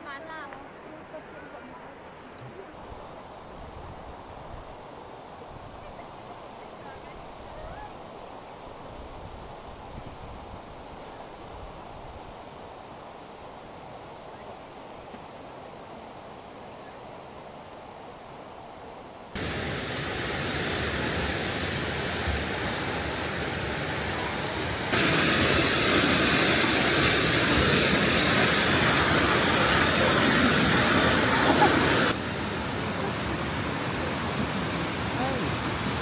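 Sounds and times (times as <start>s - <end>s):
rushing mountain stream: 0.0s - 36.0s.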